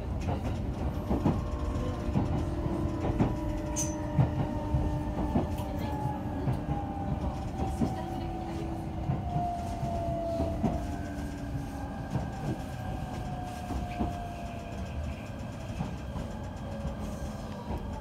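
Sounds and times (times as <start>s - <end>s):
train rolling noise: 0.0s - 18.0s.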